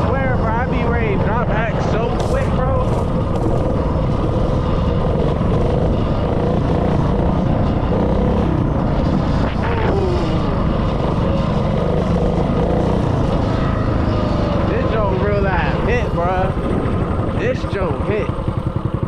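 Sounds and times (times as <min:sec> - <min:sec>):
mini bike engine rumbling: 0:00.0 - 0:19.0.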